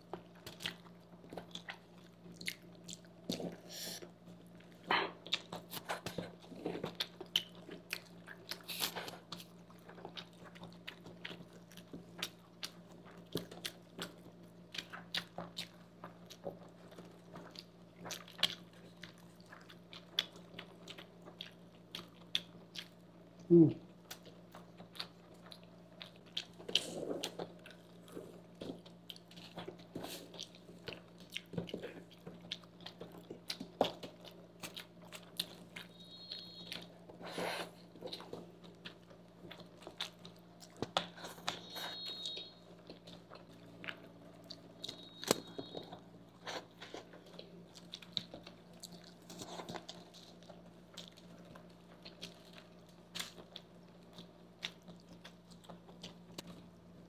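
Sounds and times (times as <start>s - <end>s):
faint steady hum: 0.0s - 57.0s
chewing noodles: 0.1s - 56.7s.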